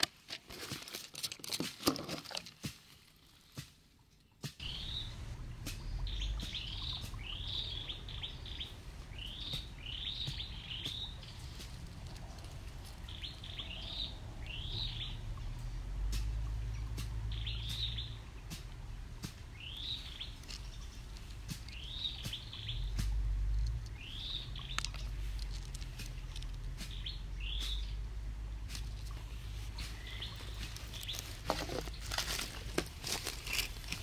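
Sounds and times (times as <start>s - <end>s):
songbird calling: 4.2s - 34.0s
low rumble: 4.6s - 34.0s.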